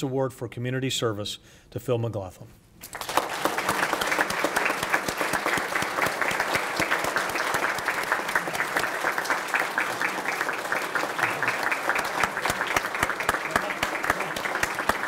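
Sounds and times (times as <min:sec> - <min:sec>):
audience applauding: 0:02.8 - 0:15.0.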